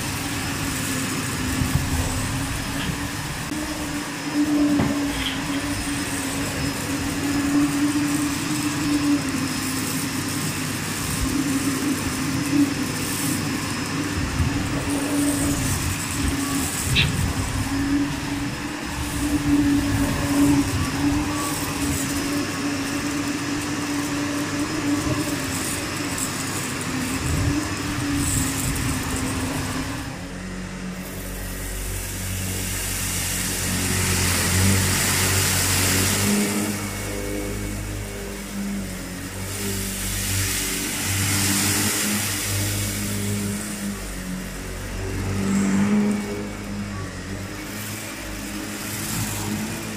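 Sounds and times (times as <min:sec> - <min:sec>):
vacuum cleaner hiss: 0:00.0 - 0:49.9
vacuum cleaner running: 0:00.0 - 0:49.9.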